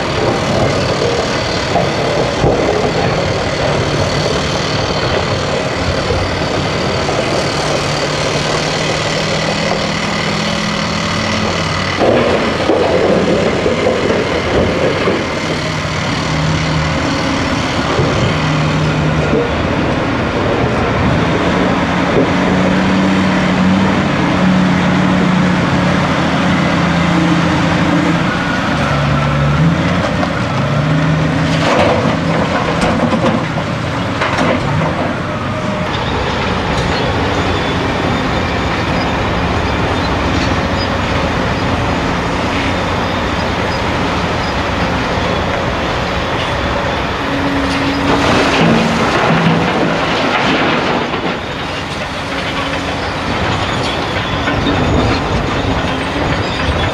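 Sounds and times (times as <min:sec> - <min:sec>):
heavy diesel truck engines: 0:00.0 - 0:56.9.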